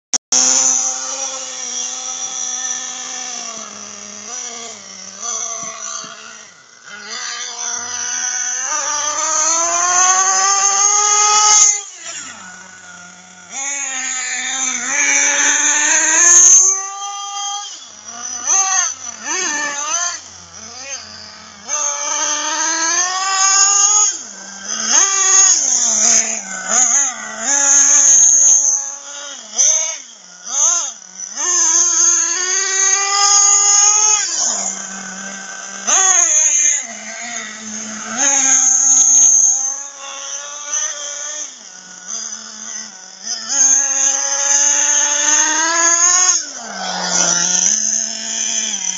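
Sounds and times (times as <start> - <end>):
model car engine revving: 0.3 - 48.9.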